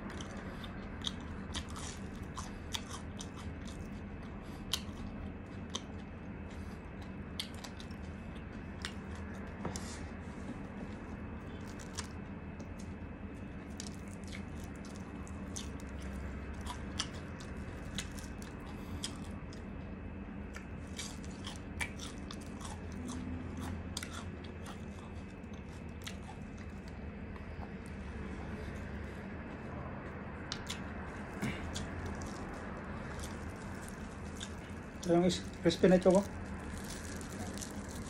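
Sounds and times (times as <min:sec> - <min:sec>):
wet chewing: 0:00.0 - 0:09.9, 0:11.4 - 0:19.7, 0:20.4 - 0:28.8, 0:30.5 - 0:38.0
crunching fried food: 0:00.0 - 0:29.5, 0:30.3 - 0:38.0
steady low hum: 0:00.0 - 0:38.0.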